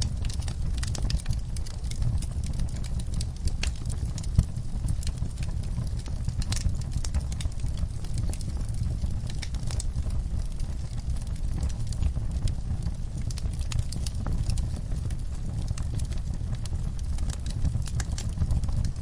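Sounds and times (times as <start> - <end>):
low steady rumble: 0.0 - 19.0
sharp pops of fire: 0.0 - 19.0
wood fire crackling: 0.0 - 19.0.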